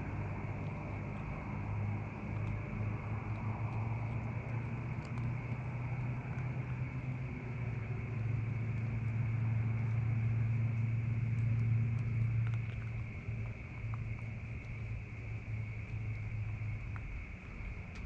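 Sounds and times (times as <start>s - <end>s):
low motor hum: 0.0s - 18.0s
faint ticks: 0.3s - 18.0s.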